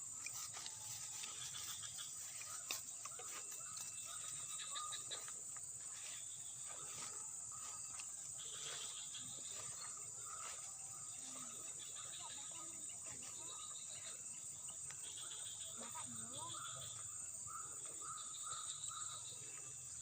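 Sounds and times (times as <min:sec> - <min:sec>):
faint chirps: 0:00.0 - 0:20.0
insects chorus: 0:00.0 - 0:20.0.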